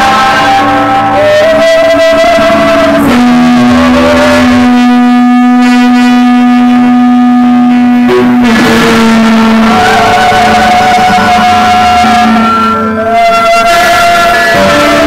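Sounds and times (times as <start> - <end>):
loud live band music: 0.0 - 15.0.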